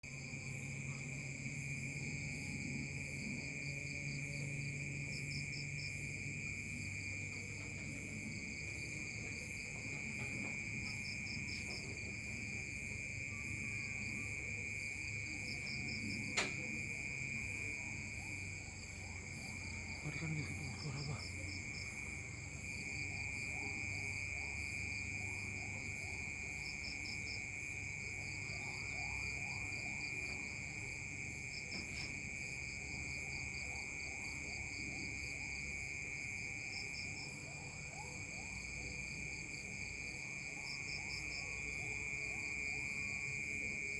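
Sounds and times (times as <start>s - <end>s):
night insects chirping: 0.1s - 43.9s.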